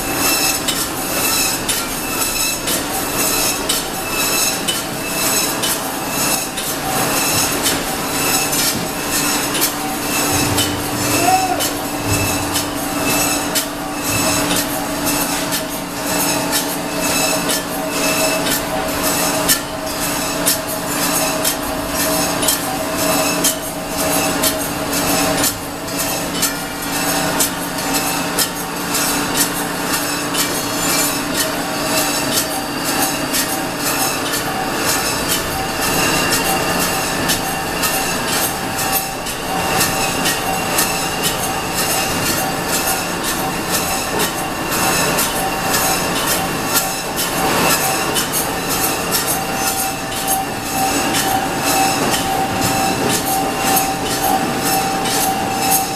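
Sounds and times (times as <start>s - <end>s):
steady mechanical hum: 0.0s - 55.9s
conveyor clattering and clicking: 0.1s - 55.9s.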